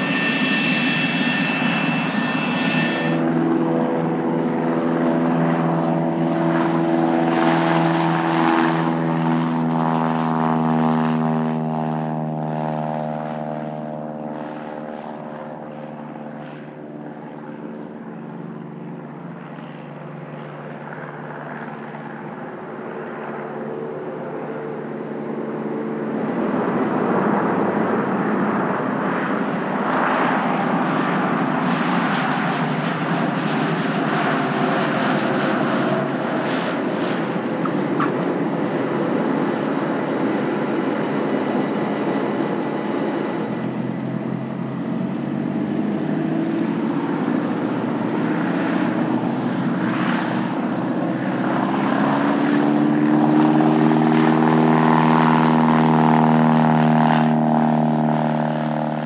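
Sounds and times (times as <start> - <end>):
plane passing close overhead: 0.0 - 59.0
propeller plane engine droning: 0.0 - 59.0.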